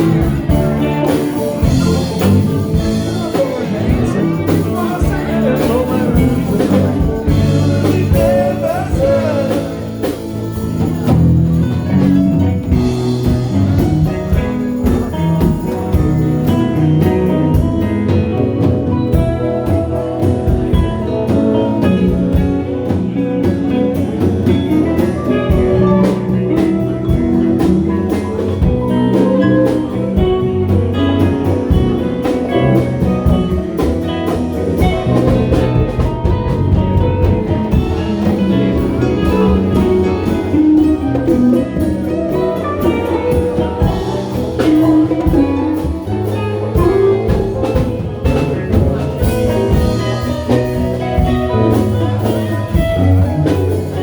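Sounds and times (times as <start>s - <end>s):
drums beat: 0.0s - 54.0s
guitar: 0.0s - 54.0s
live band playing ragtime: 0.0s - 54.0s.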